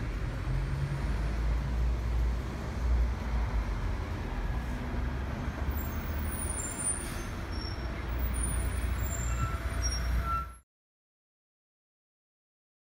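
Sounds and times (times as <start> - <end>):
bus diesel engine rumbling: 0.0 - 10.6.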